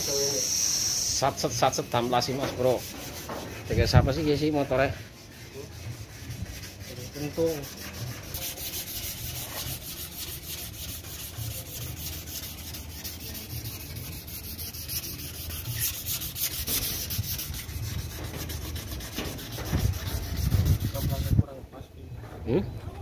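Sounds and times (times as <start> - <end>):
sandpaper rubbing on metal: 0.0 - 21.6.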